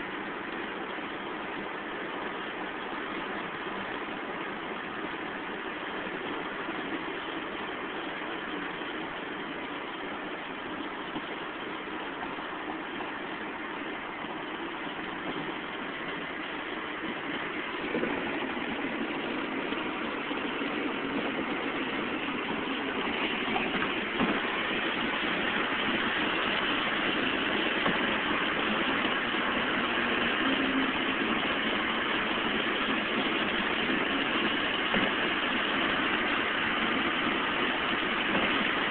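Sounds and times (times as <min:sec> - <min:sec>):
road and wind noise inside car: 0:00.0 - 0:38.9.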